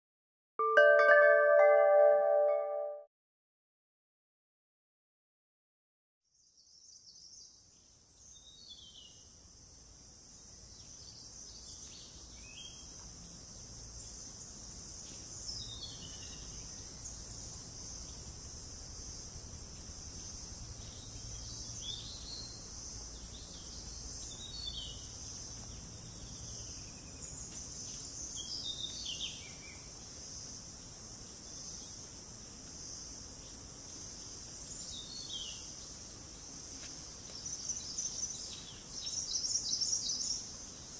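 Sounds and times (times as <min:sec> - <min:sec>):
insects droning: 0:06.8 - 0:40.9.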